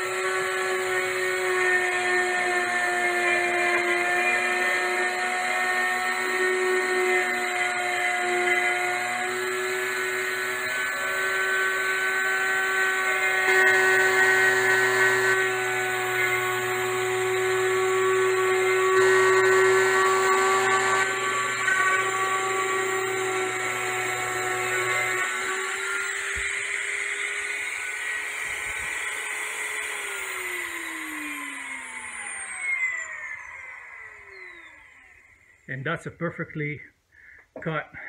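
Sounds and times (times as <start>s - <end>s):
rotary tool motor whine: 0.0s - 35.7s.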